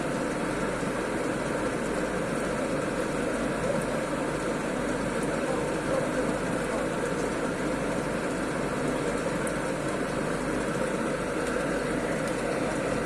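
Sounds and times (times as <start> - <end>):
mixer machine running: 0.0 - 13.0.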